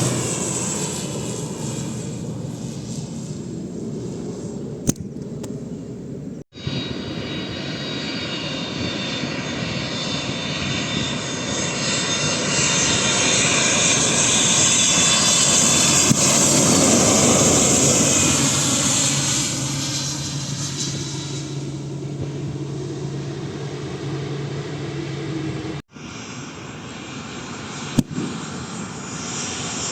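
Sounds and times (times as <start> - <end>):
airliner engine rush with whine: 0.0 - 29.9.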